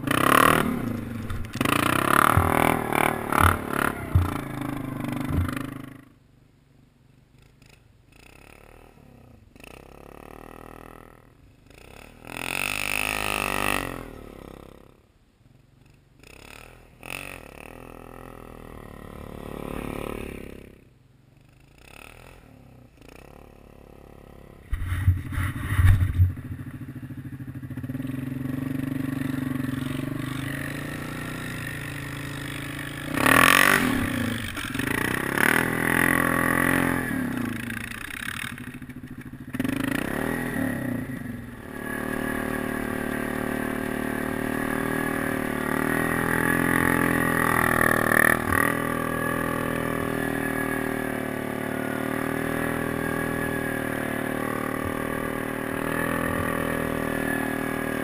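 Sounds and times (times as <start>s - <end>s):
quad engine revving: 0.0s - 6.1s, 7.4s - 14.9s, 16.2s - 20.8s, 21.4s - 58.0s.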